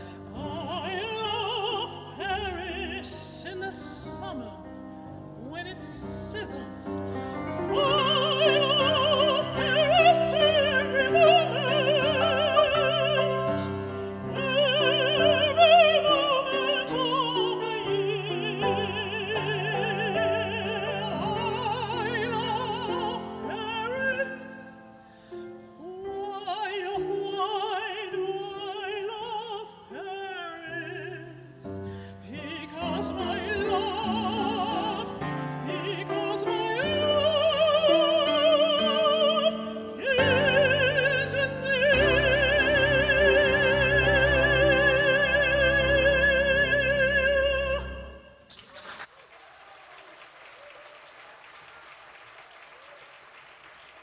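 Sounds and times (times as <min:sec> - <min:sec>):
woman singing operatically: 0:00.0 - 0:04.8, 0:05.4 - 0:25.0, 0:25.7 - 0:48.4
grand piano: 0:00.0 - 0:48.7.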